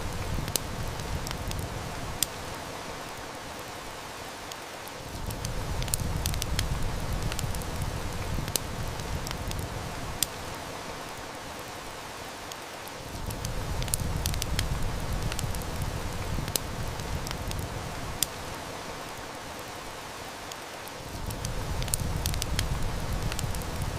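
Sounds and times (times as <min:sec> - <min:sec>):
wood fire crackling and popping: 0:00.0 - 0:03.7, 0:04.5 - 0:11.8, 0:12.4 - 0:19.8, 0:20.4 - 0:23.9
heavy rain hissing: 0:00.0 - 0:23.9.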